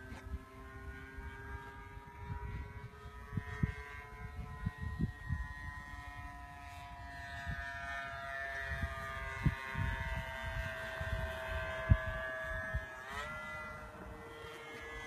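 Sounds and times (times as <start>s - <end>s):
model plane flying past: 0.0s - 15.0s.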